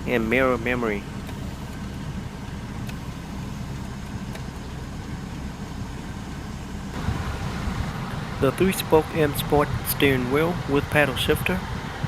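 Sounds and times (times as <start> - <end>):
low hum in car cabin: 0.0 - 12.0.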